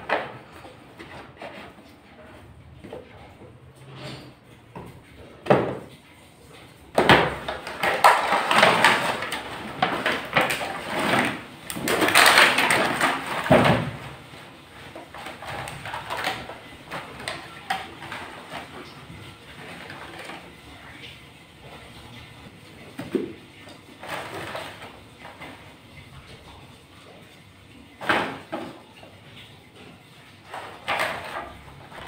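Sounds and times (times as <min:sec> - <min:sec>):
plastic tray scraping and rustling: 0:00.0 - 0:05.9, 0:06.5 - 0:26.6, 0:28.0 - 0:32.0.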